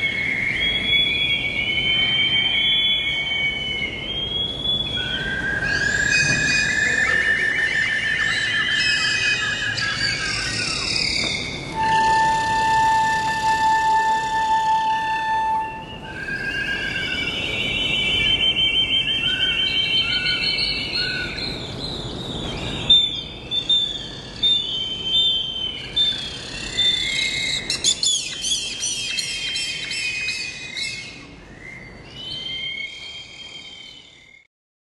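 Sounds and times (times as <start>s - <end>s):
bird trilling: 0.0s - 15.0s, 15.6s - 34.3s
bird whistles and chirps: 0.0s - 34.5s.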